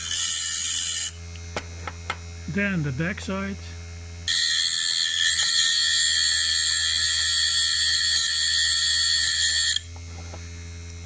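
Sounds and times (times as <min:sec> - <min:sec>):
grinding wheel whine: 0:00.0 - 0:11.0.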